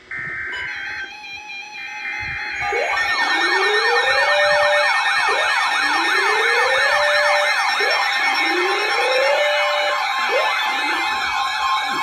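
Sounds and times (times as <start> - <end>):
yelping siren: 0.1 - 12.0
wailing siren: 0.2 - 12.0.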